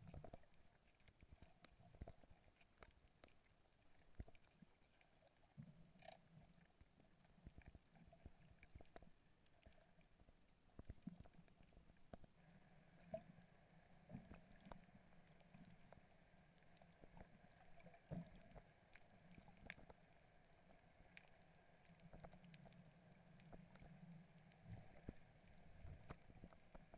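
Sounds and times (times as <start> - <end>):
small clicks underwater: 0.0 - 26.9.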